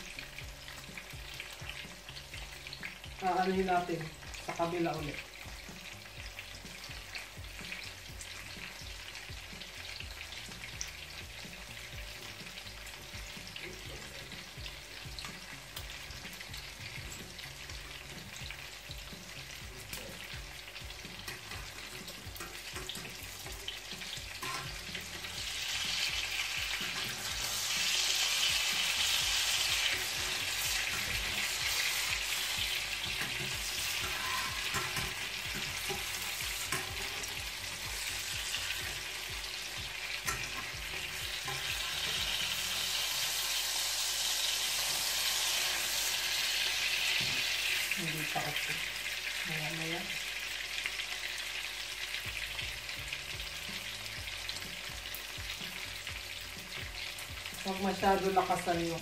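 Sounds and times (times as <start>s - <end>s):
omelette sizzling in oil: 0.0s - 59.0s.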